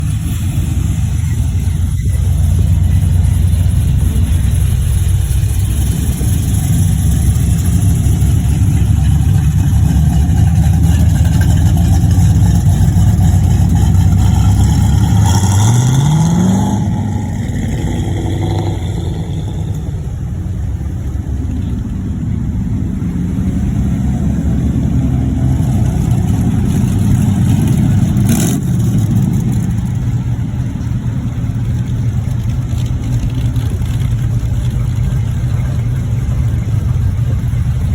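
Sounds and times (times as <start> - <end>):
truck engine rumbling: 0.0 - 37.9.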